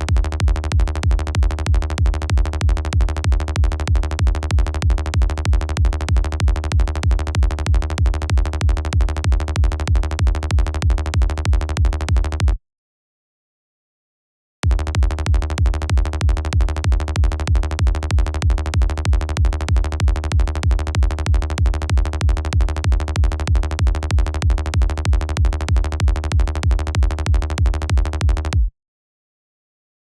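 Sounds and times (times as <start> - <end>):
electronic kick drum: 0.0 - 12.6, 14.6 - 28.7
synth bass loop: 0.0 - 12.6, 14.6 - 28.7.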